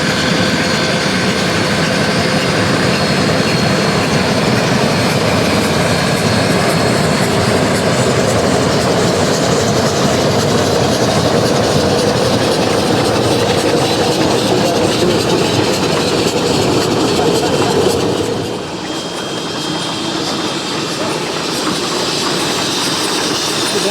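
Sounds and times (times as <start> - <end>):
steam locomotive running past: 0.0 - 23.9.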